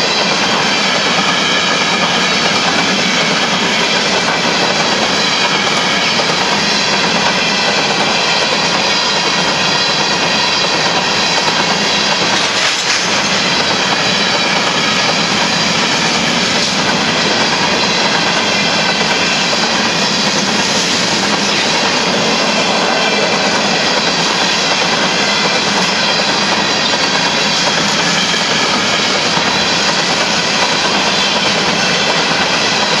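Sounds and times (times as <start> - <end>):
train wheels clattering on rail: 0.0 - 33.0.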